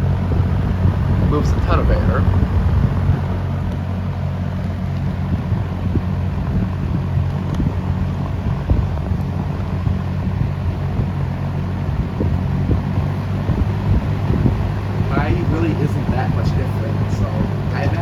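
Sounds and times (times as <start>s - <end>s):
fan motor hum: 0.0s - 18.0s
rushing air from fan: 0.0s - 18.0s
wind buffeting microphone: 0.0s - 18.0s.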